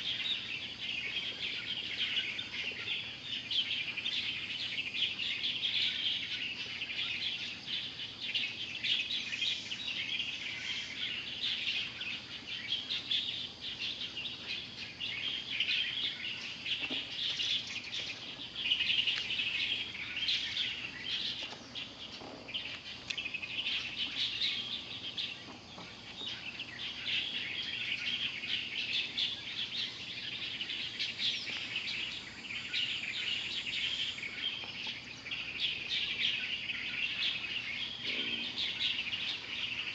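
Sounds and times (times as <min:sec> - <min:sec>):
low bird calls: 0:00.0 - 0:39.9
small birds chirping: 0:00.0 - 0:39.9.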